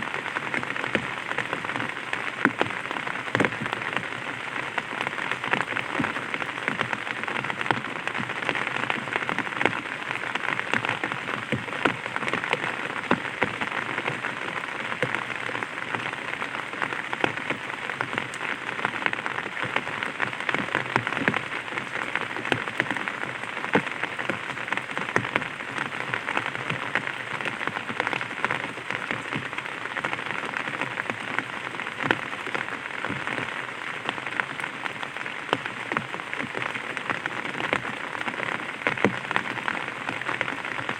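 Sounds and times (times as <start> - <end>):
light rain on an umbrella: 0.0 - 40.9.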